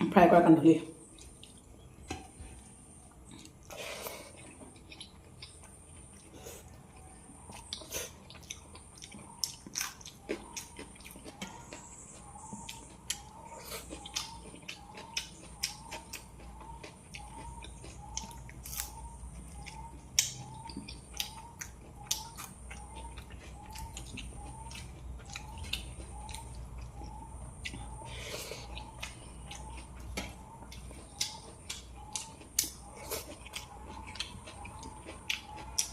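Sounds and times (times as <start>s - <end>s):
chewing fried fish: 1.0s - 35.9s.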